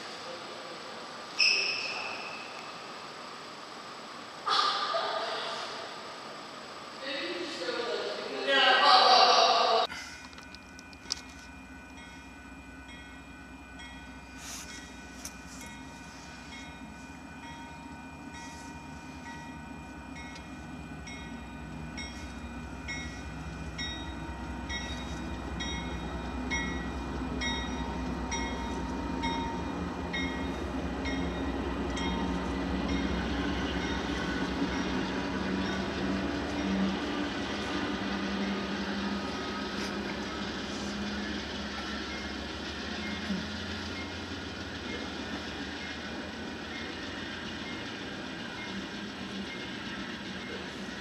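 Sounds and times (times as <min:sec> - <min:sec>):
freight train rumble: 0:00.0 - 0:51.0
crossing warning bell ringing: 0:09.8 - 0:51.0.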